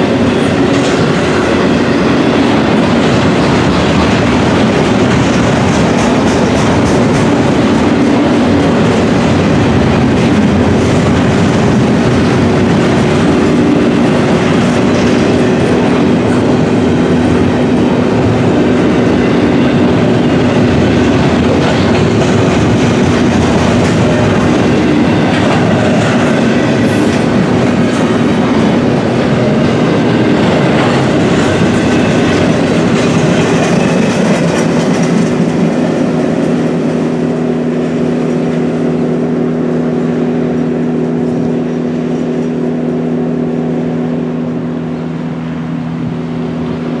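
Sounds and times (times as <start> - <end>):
train cars rolling on rails: 0.0 - 47.0.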